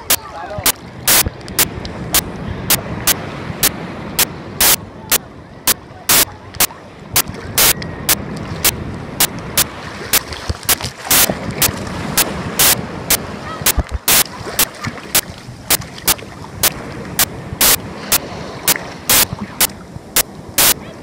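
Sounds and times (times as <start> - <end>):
sea surf churning: 0.0 - 21.0
water splashing on microphone: 0.0 - 21.0.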